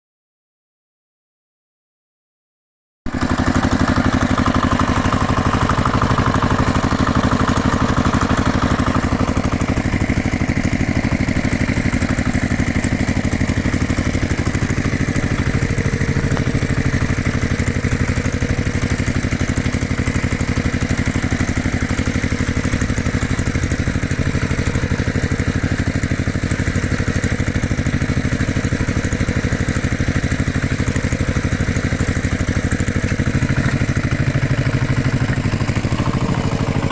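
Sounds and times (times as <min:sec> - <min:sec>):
heavy construction machinery droning: 0:03.1 - 0:36.9.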